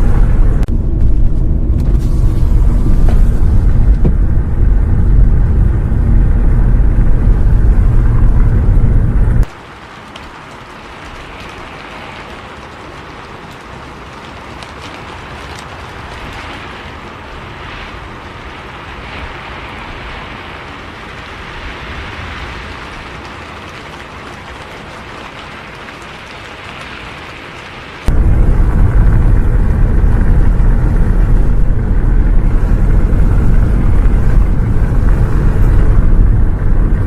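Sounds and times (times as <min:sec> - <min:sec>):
bus engine and road rumble: 0:00.0 - 0:09.6, 0:10.5 - 0:37.0
rain hiss: 0:00.0 - 0:37.0.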